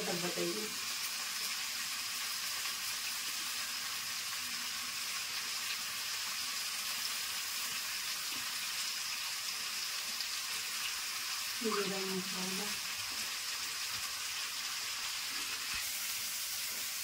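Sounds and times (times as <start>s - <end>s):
chickpeas sizzling in oil: 0.0s - 17.0s.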